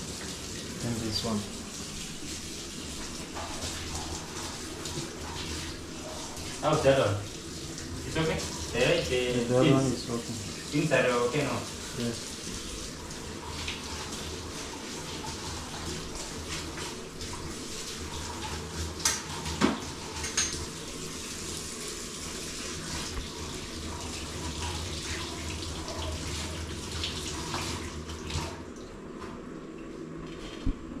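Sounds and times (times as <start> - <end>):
tap water running into sink: 0.0 - 29.4.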